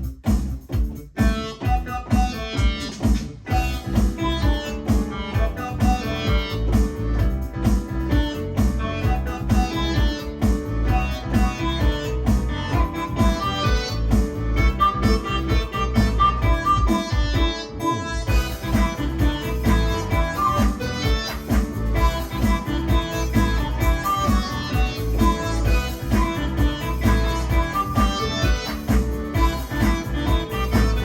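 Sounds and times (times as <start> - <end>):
electronic organ playing pop music: 0.0 - 31.0.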